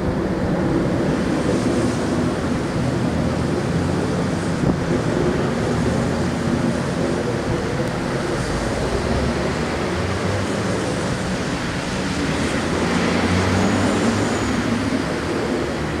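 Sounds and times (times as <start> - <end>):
loud low rumbling drone: 0.0 - 16.0.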